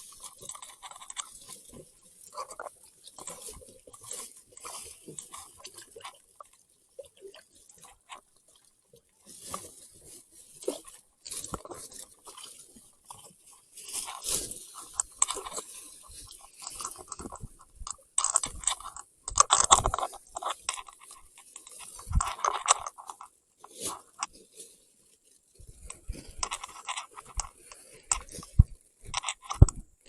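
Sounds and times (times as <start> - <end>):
crunching and rustling: 0.0 - 30.0.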